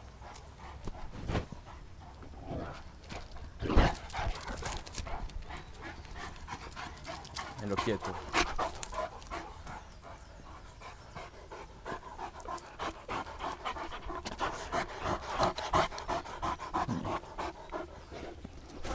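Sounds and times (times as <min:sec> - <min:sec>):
dog panting: 0:00.0 - 0:02.4, 0:03.9 - 0:18.9.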